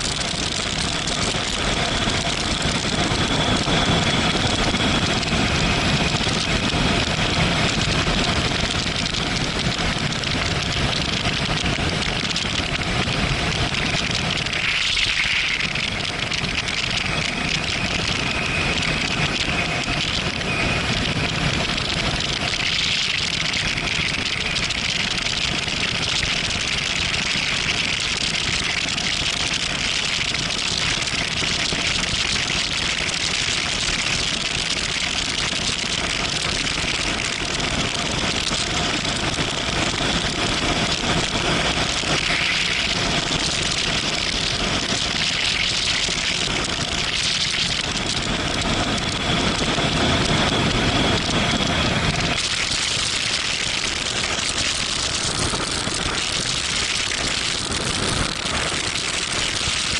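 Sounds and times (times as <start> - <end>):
wind rush: 0.0 - 28.0, 35.4 - 59.9.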